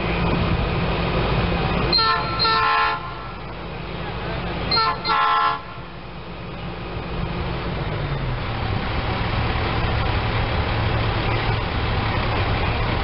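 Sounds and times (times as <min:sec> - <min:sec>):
diesel engine drone: 0:00.0 - 0:13.0
rail rumble: 0:00.0 - 0:13.0.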